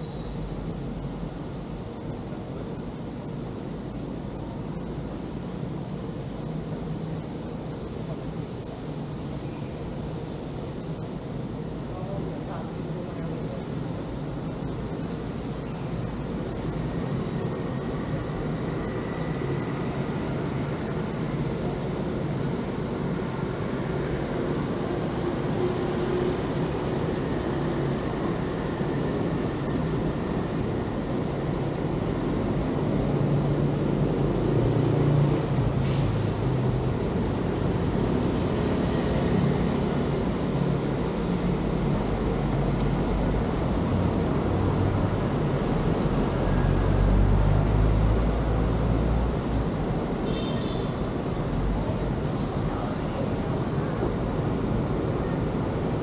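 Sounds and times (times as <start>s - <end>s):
traffic hum: 0.0s - 56.0s.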